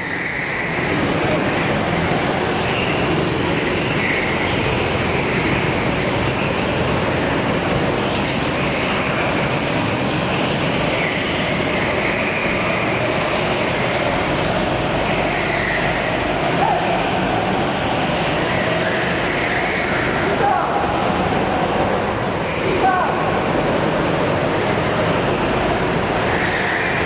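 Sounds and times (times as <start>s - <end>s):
go-kart engines droning: 0.0s - 27.0s.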